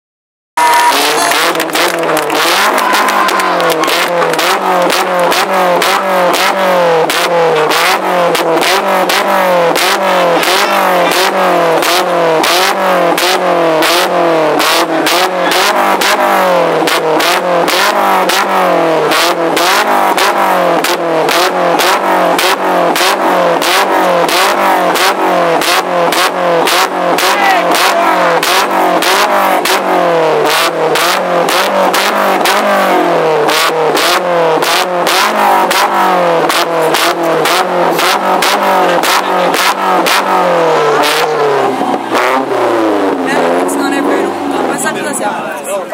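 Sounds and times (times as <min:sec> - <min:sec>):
car engine revving: 0:00.6 - 0:45.9.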